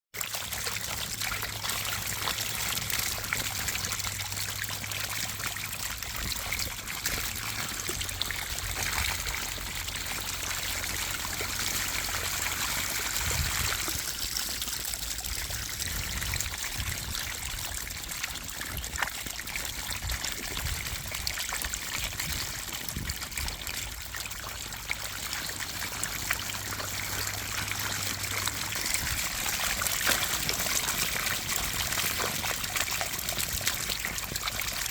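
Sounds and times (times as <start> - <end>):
water splashing and trickling: 0.2 - 34.9.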